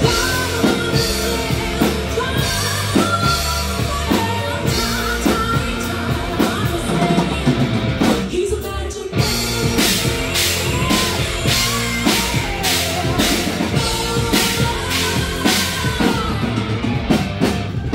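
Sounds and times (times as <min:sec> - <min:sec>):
drums beating steadily: 0:00.0 - 0:17.9
person singing: 0:00.0 - 0:17.9
rock band playing live: 0:00.0 - 0:17.9.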